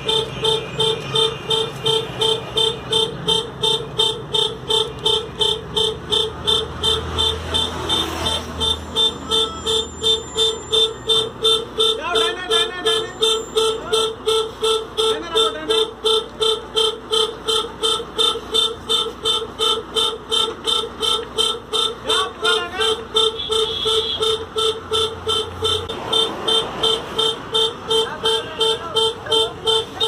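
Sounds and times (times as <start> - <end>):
diesel engine running low: 0.0 - 30.0
truck reversing alarm beeping: 0.0 - 30.0.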